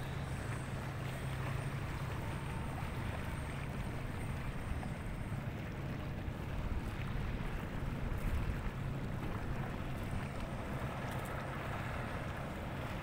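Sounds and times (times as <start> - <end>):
low engine drone: 0.0 - 13.0
water noise: 0.0 - 13.0
wind: 0.0 - 13.0.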